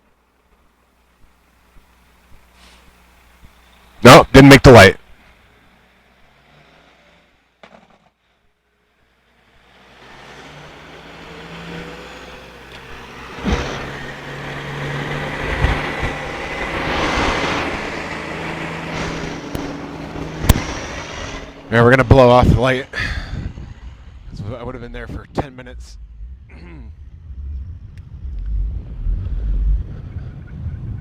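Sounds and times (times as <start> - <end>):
vehicle passing by: 5.4 - 31.0.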